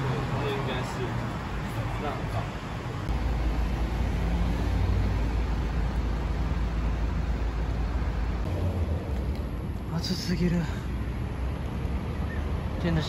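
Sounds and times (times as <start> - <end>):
bus engine rumbling: 0.0 - 13.0
passing road traffic: 0.0 - 13.0.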